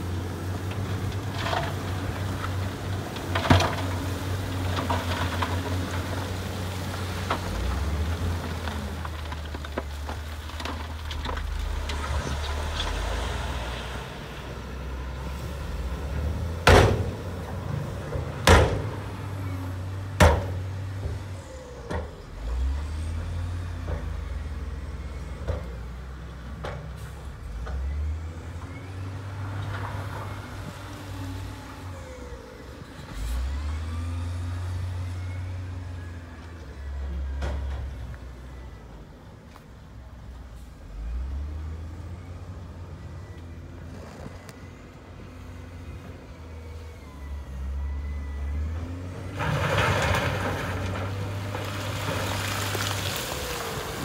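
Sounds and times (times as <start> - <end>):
diesel engine of heavy machine: 0.0 - 54.0.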